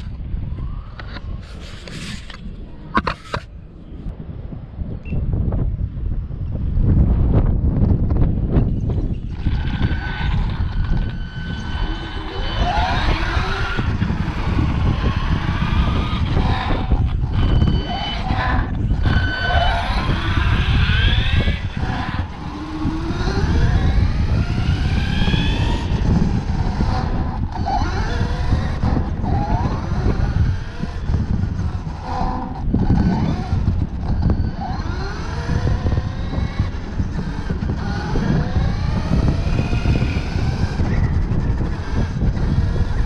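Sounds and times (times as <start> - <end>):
drivetrain whine: 0.0 - 43.0.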